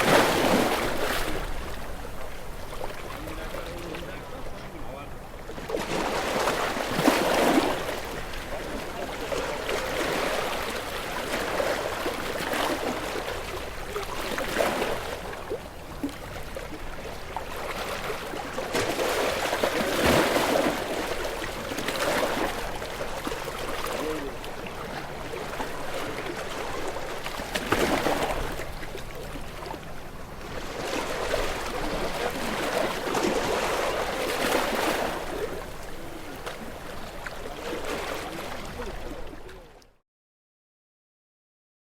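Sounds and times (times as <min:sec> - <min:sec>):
ocean waves breaking: 0:00.0 - 0:39.8.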